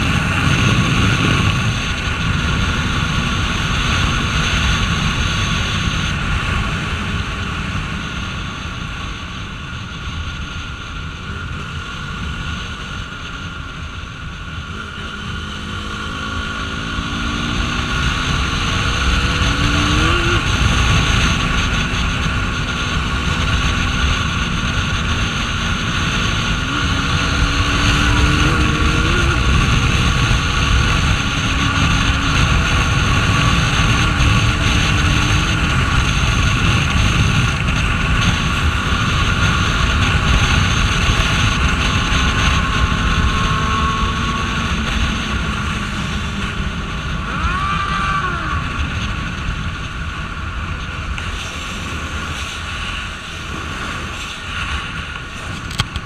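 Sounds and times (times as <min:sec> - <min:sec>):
motorcycle engine under way: 0:00.0 - 0:56.0
wind rush on microphone: 0:00.0 - 0:56.0.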